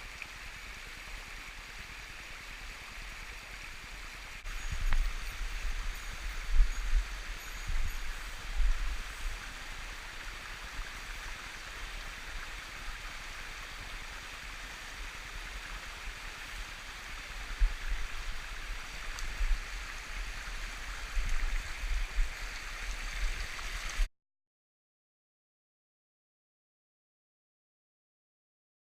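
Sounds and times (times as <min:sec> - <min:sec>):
stream rushing over rocks: 0:00.0 - 0:24.1.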